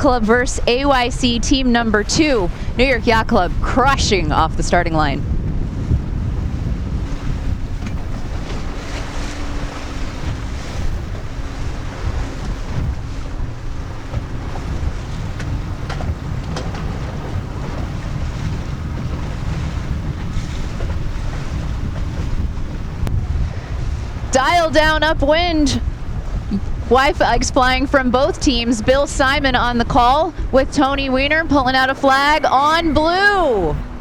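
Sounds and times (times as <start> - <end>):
water noise: 0.0 - 34.0
wind buffeting microphone: 0.0 - 34.0.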